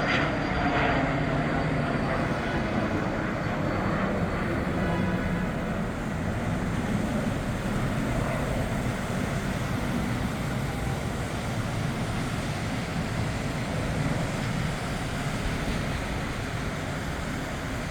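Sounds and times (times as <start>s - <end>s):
jet engines rumbling at takeoff: 0.0s - 17.9s.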